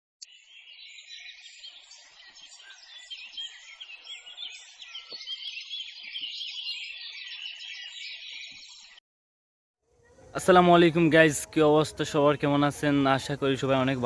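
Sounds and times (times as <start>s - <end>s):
small birds chirping chorus: 0.2s - 9.0s, 9.9s - 14.0s.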